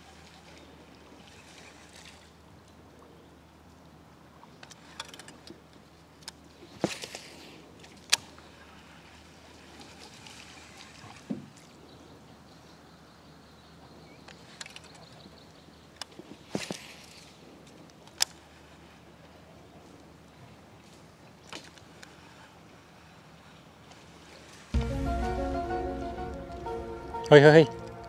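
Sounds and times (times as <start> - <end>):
faint water lapping: 0.0 - 28.0.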